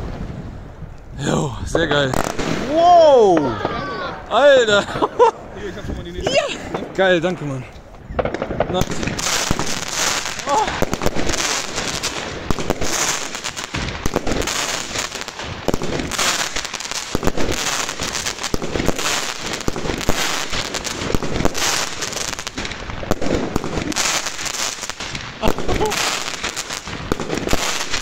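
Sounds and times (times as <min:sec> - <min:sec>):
fireworks crackling: 0:00.0 - 0:28.0
loud firework bangs: 0:02.0 - 0:05.7, 0:06.6 - 0:28.0.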